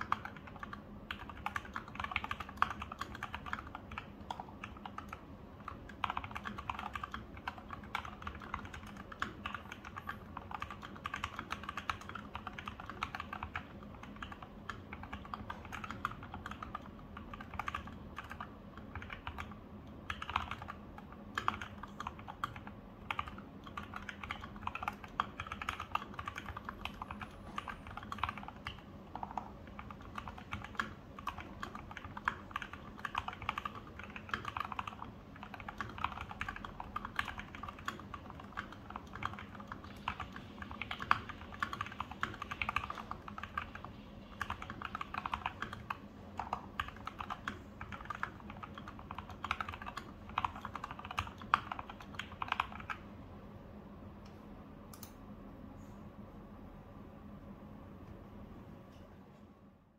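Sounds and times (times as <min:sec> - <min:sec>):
mechanical keyboard typing: 0:00.0 - 0:53.0.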